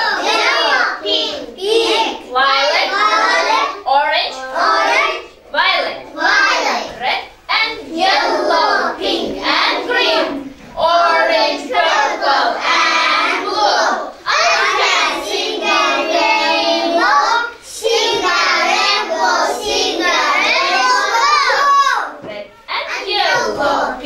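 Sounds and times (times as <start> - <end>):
young children singing: 0.0 - 24.0.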